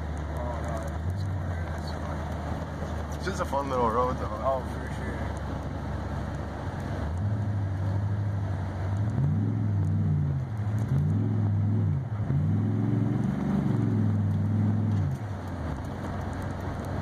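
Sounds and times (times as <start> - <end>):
tyre and road rumble: 0.0 - 17.0
vehicle engine revving: 0.0 - 17.0.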